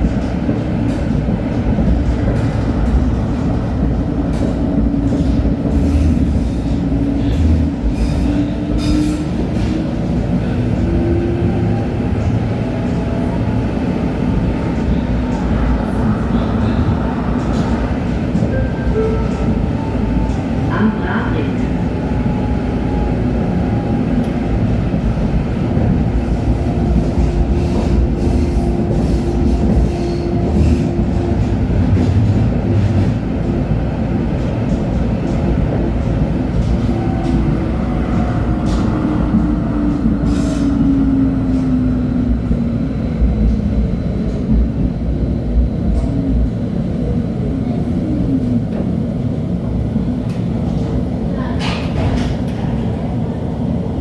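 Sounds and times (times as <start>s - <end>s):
rumble of train wheels: 0.0s - 54.0s.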